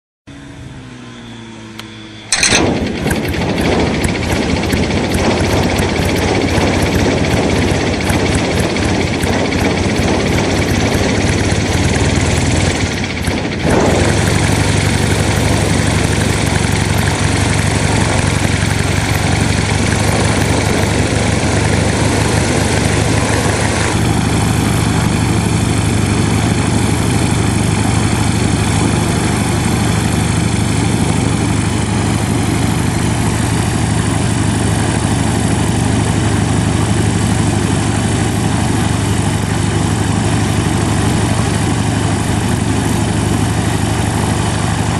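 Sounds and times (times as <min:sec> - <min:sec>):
aircraft engine running: 0:00.3 - 0:44.9.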